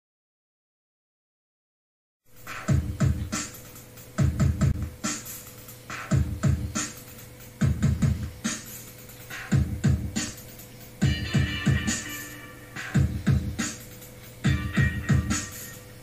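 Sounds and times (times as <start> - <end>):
electronic music with kick drum: 2.3 - 16.0.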